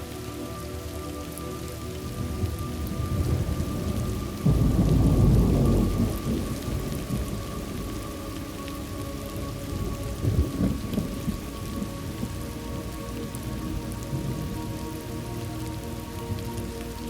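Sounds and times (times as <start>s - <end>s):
steady rain: 0.0s - 17.0s
thunder rumbling: 2.1s - 16.8s.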